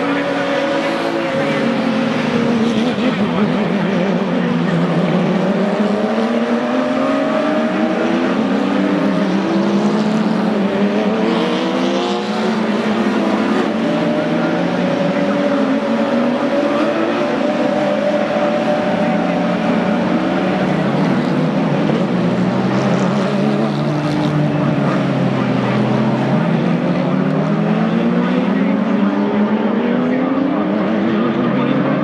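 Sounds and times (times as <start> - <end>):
race car engines idling and revving: 0.0 - 32.0.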